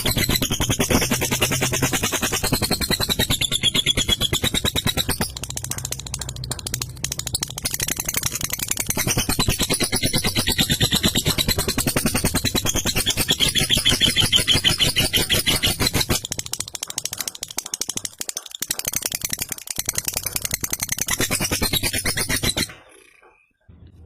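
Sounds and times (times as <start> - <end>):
lovebird rattling chatter: 0.0 - 23.5.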